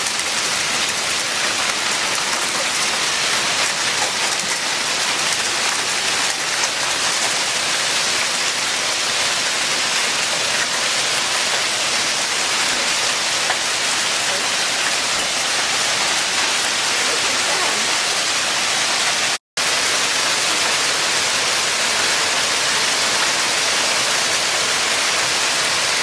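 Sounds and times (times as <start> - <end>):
hail falling: 0.0 - 26.0.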